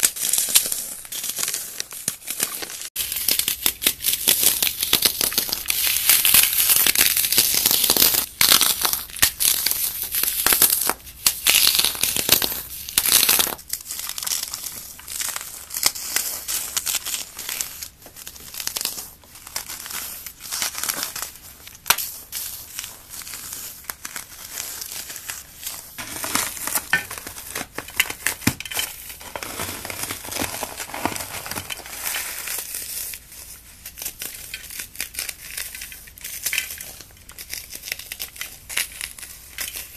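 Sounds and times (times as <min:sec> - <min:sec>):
floral foam crackling and crunching: 0:00.0 - 0:39.9.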